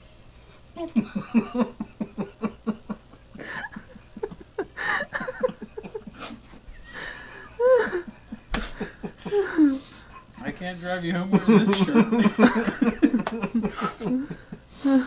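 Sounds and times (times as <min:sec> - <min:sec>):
men laughing: 0:00.8 - 0:15.0.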